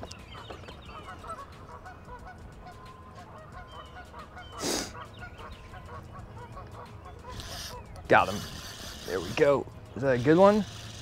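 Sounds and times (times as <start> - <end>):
flock of geese honking: 0.2 - 9.6.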